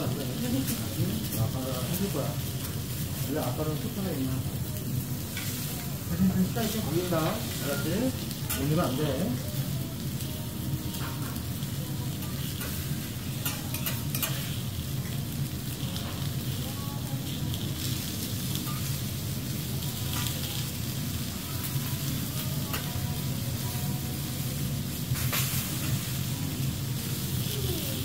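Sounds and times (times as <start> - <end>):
vegetables sizzling on griddle: 0.0 - 28.0.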